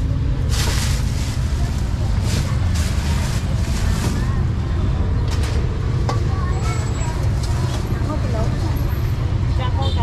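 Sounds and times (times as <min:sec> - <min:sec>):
low rumble of traffic: 0:00.0 - 0:10.0
people talking: 0:01.1 - 0:10.0.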